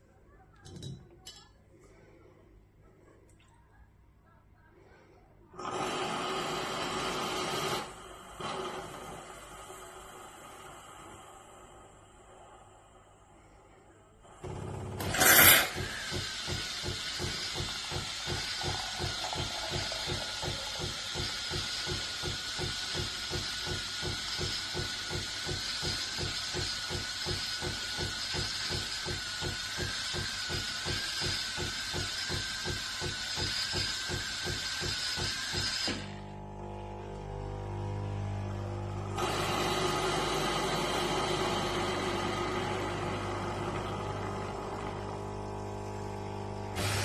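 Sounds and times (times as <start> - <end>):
coffee machine hissing and pulsing: 5.6 - 13.3, 14.3 - 47.0.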